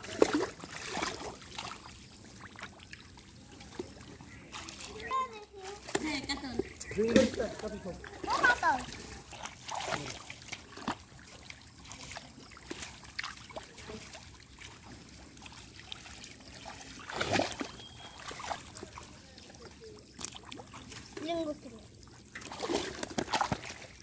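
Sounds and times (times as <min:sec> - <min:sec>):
muddy water sloshing: 0:00.0 - 0:24.0
small water splashes: 0:00.0 - 0:24.0.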